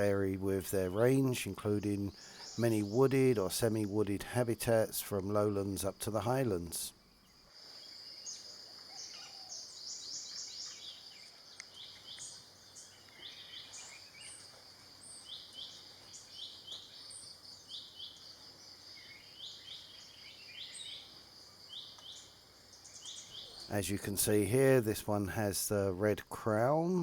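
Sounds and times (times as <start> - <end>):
birds chirping: 0.0 - 27.0
high insect drone: 0.0 - 27.0.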